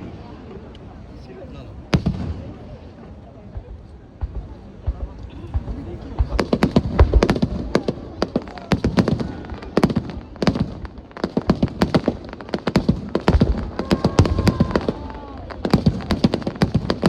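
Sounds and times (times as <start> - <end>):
fireworks bangs and crackles: 1.8 - 17.0.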